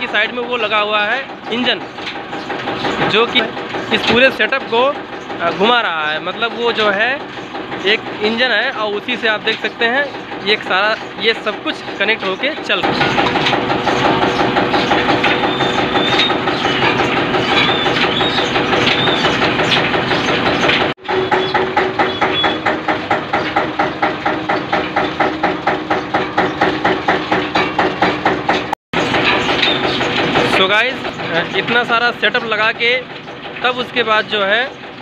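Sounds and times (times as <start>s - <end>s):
mill machinery clattering: 0.0s - 35.0s.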